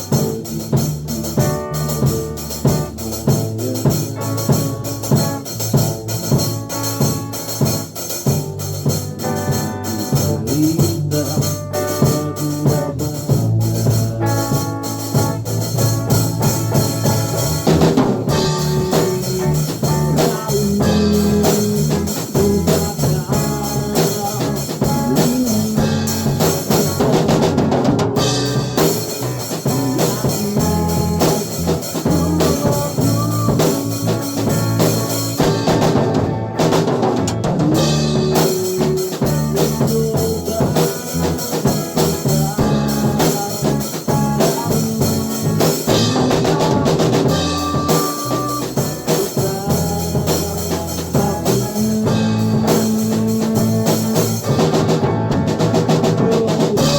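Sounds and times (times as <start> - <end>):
bass line: 0.0 - 56.9
drum kit beat: 0.0 - 56.9.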